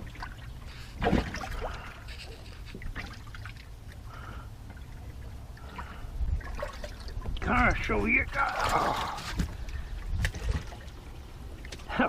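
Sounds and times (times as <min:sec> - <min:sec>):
steady low rumble: 0:00.0 - 0:11.9
water trickling and dripping: 0:00.0 - 0:12.0.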